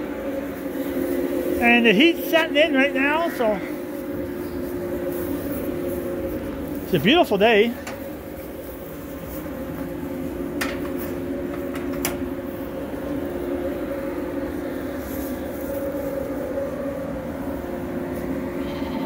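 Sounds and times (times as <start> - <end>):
aeration fan humming: 0.0 - 19.0.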